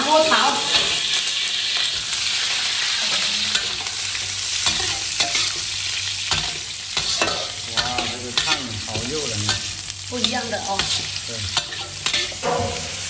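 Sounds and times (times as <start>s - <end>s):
meat sizzling in hot oil: 0.0s - 13.0s
metal spatula scraping a wok: 0.6s - 13.0s.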